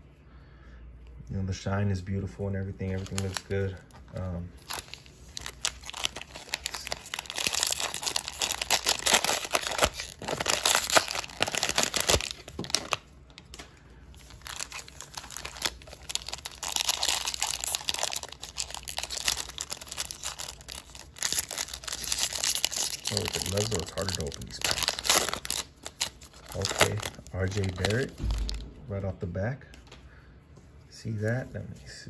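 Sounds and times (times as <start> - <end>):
plastic wrapper tearing and crinkling: 2.8 - 28.7.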